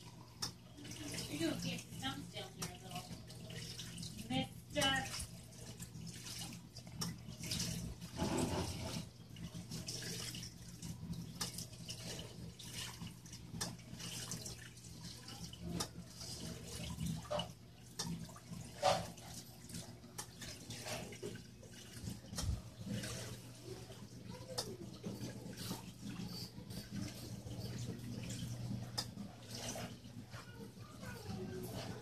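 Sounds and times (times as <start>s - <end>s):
aquarium water trickling: 0.0s - 32.0s.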